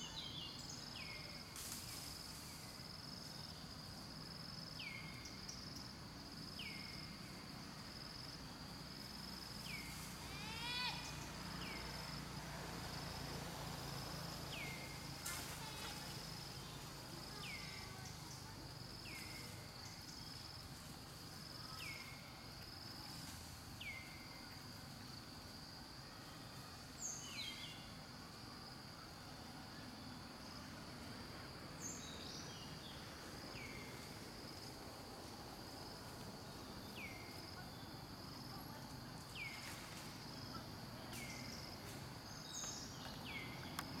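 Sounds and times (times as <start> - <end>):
insect drone: 0.0 - 44.0.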